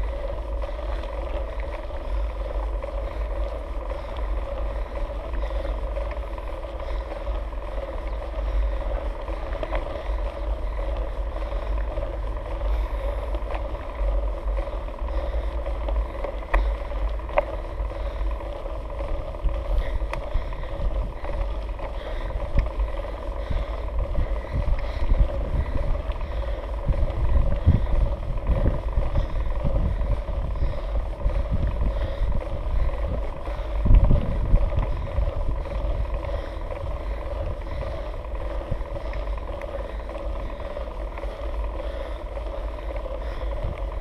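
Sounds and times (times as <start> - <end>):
wind and bike riding rumble: 0.0 - 44.0.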